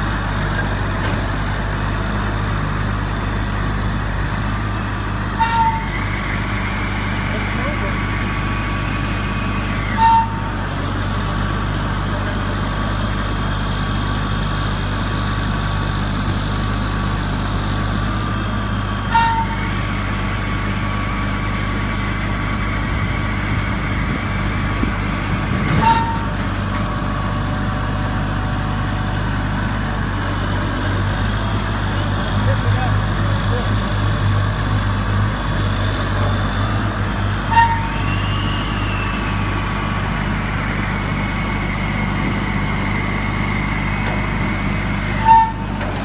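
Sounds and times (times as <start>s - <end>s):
diesel engine droning: 0.0s - 46.0s.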